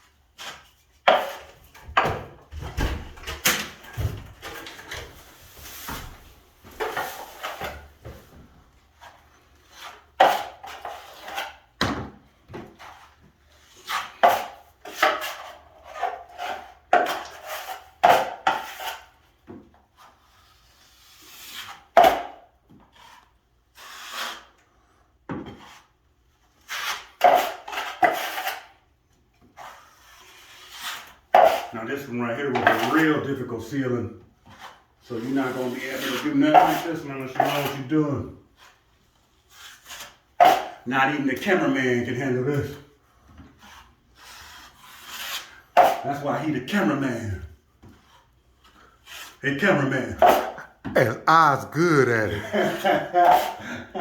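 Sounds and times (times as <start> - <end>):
drywall knife scraping compound: 0.0 - 50.9, 52.4 - 54.0.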